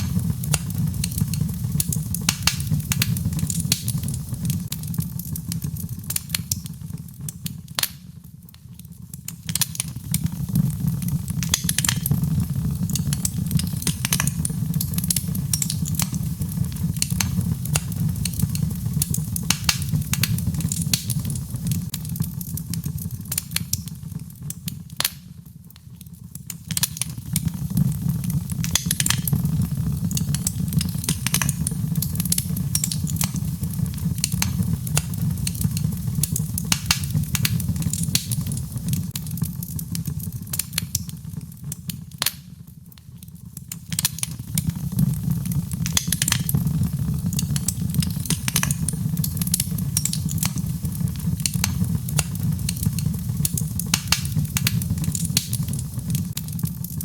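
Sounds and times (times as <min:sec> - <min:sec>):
logs crackling in a fireplace: 0:00.0 - 0:57.0.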